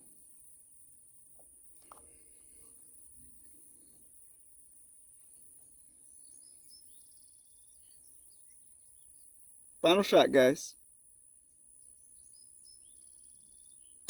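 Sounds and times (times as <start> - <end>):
faint bird chirps: 0.0 - 10.1, 10.8 - 14.0.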